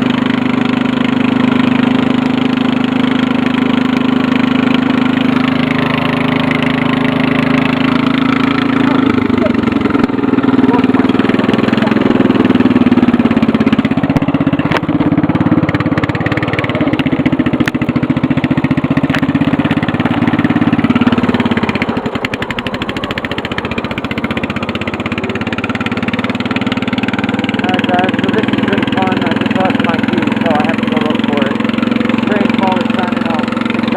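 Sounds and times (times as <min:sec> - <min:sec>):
riding lawn mower engine: 0:00.0 - 0:33.9.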